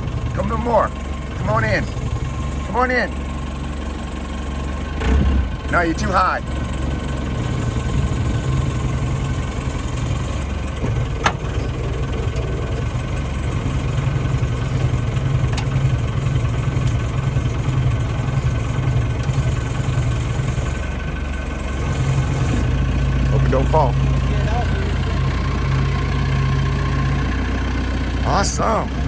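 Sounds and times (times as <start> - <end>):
forklift engine running: 0.0 - 29.0.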